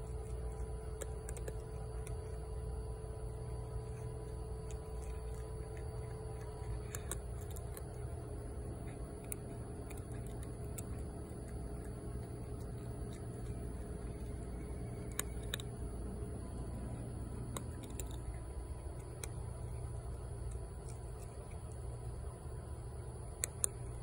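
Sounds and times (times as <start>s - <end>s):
cat crunching dry kibble: 0.0s - 24.0s
low mechanical hum with whine: 0.0s - 24.0s.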